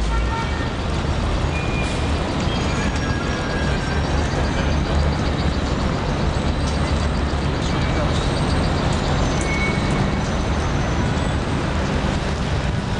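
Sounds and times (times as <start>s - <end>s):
bus engine passing: 0.0s - 12.9s
city street traffic: 0.0s - 12.9s.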